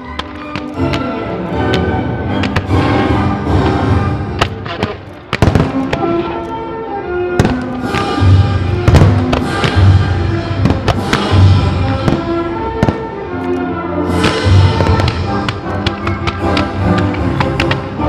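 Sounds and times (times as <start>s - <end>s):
firework bangs: 0.0s - 6.4s, 7.4s - 13.2s, 14.1s - 18.0s.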